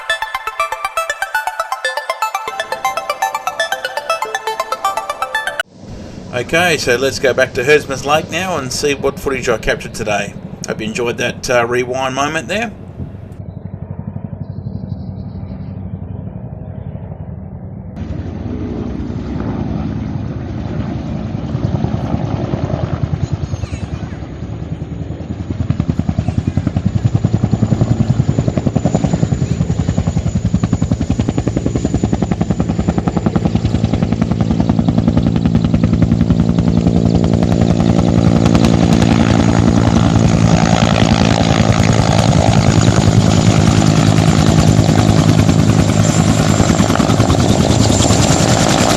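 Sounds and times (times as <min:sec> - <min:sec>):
helicopter engine drone: 0:00.0 - 0:48.9
helicopter rotor chopping: 0:00.0 - 0:48.9.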